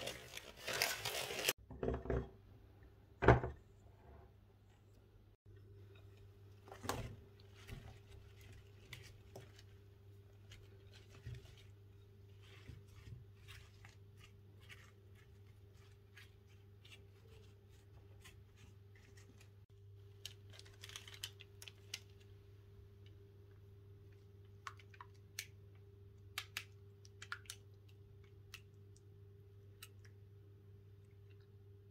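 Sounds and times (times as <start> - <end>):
low electrical hum: 0.0 - 31.9.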